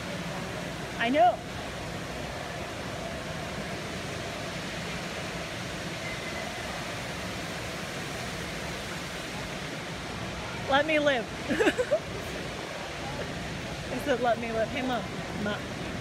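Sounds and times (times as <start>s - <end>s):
ventilation hiss: 0.0s - 16.0s.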